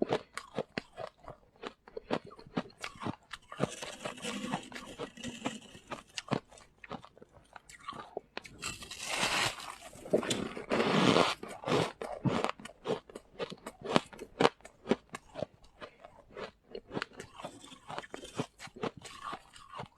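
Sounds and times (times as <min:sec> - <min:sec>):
chewing crunchy frost: 0:00.0 - 0:19.9.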